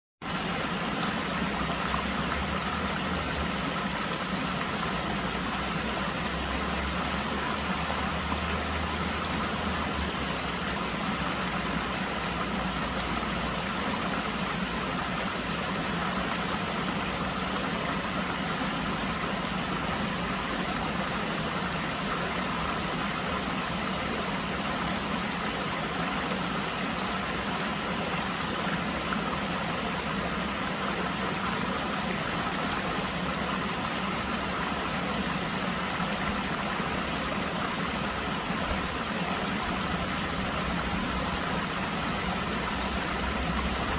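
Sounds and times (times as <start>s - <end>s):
stream flowing over stones: 0.2s - 43.9s.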